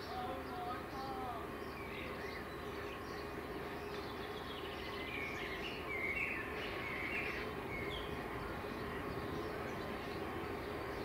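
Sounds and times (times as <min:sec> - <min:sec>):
distant electric train hum: 0:00.0 - 0:11.0
small birds chirping: 0:00.0 - 0:11.0.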